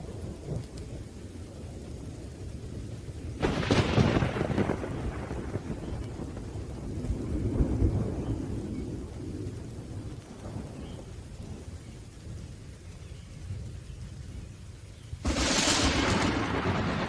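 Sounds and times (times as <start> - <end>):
rolling thunder: 0.0 - 14.6, 15.2 - 17.0
steady rain: 0.0 - 17.0.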